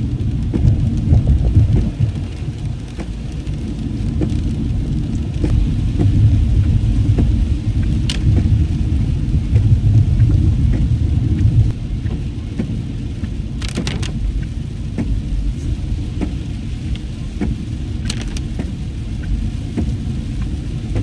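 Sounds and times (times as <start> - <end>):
rain tapping on car: 0.0 - 21.0
road and engine rumble: 0.0 - 21.0.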